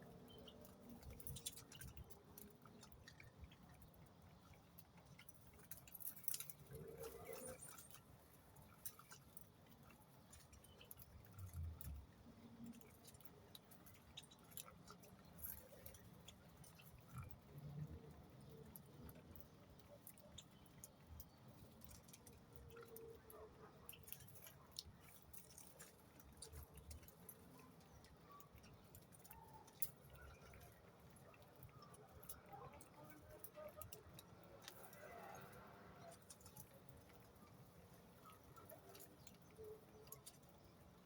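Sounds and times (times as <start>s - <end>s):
faint ticks: 0.0s - 41.0s.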